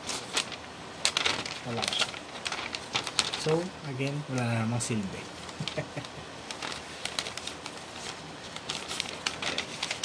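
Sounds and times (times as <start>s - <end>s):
paper leaflet rustling: 0.0s - 10.0s.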